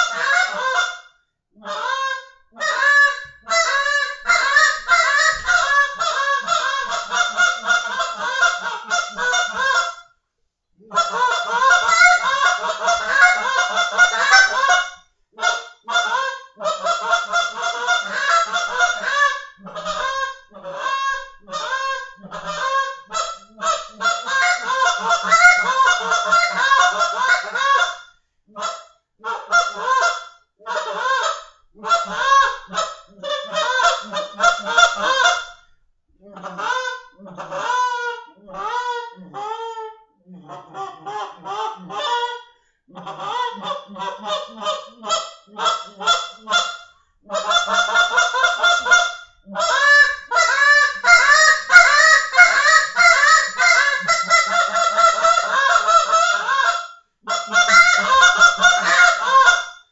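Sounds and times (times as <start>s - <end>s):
goose call honks and clucks: 0.0s - 10.1s, 10.8s - 59.9s.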